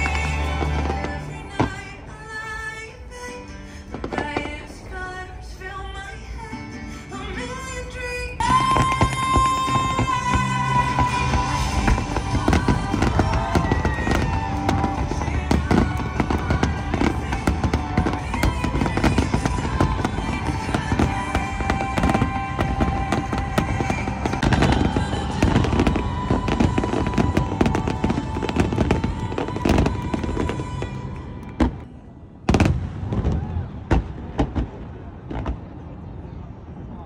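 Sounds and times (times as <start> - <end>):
fireworks bangs and crackles: 0.0 - 2.1, 3.9 - 5.0, 8.5 - 37.0
music: 0.0 - 31.9.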